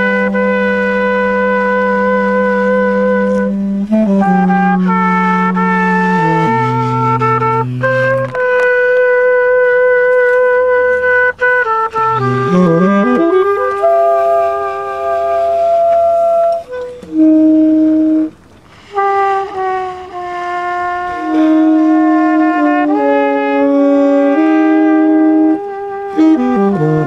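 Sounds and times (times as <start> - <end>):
tenor saxophone: 0.0 - 27.0
trumpet: 0.0 - 27.0.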